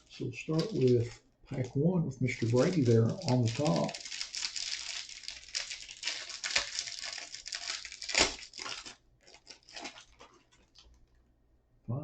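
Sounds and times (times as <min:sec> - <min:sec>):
plastic wrapper ripping: 0:00.0 - 0:11.2
plastic wrapper crinkling: 0:00.0 - 0:11.3.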